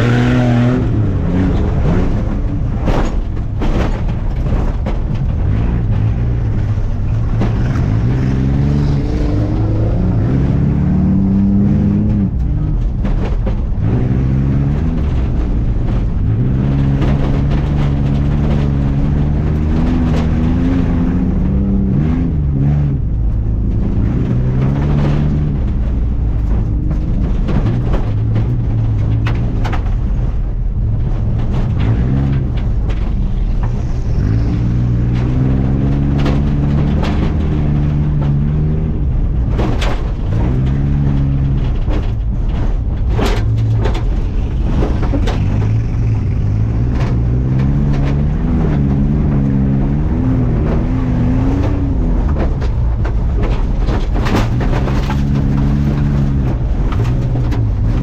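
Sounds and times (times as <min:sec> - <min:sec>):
sharp knocks and clatter: 0:00.0 - 0:58.0
truck engine revving: 0:00.0 - 0:58.0.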